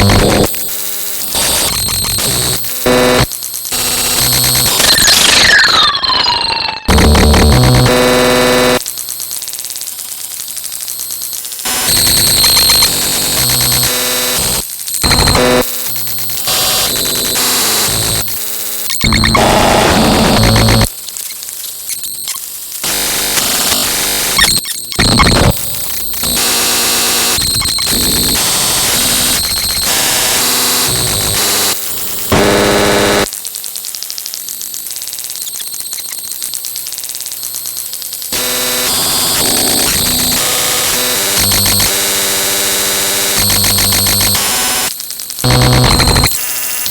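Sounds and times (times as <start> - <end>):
synthetic buzzing and static: 0.0 - 46.9.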